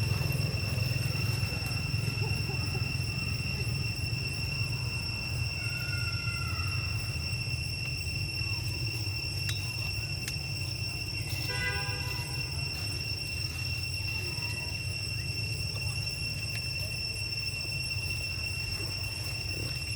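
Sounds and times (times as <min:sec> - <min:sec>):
insects droning: 0:00.0 - 0:19.9.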